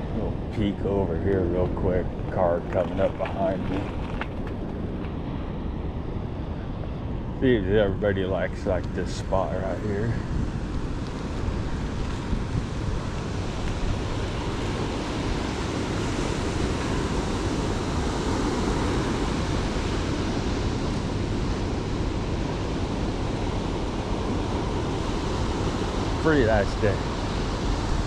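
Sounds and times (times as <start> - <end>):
ocean surf rushing: 0.0 - 28.0
wind: 0.0 - 28.0.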